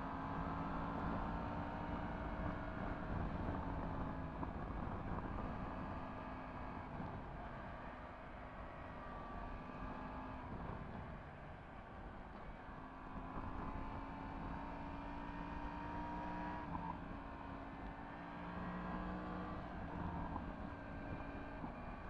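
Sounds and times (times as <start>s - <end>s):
road and wind noise: 0.1s - 22.0s.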